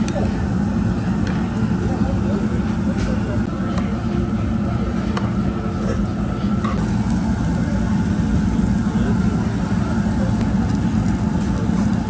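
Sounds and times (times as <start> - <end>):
indistinct voices: 0.0 - 12.0
low room rumble: 0.0 - 12.0.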